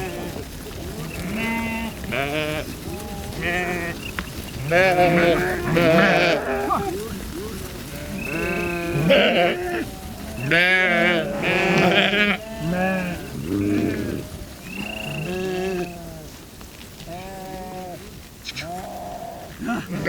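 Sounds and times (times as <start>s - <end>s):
sheep bleating: 0.0s - 16.4s, 17.0s - 20.0s.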